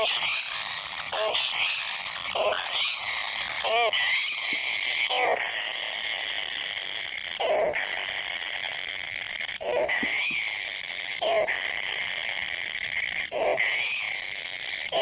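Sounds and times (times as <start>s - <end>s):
nestlings high-pitched churring: 0.0s - 15.0s.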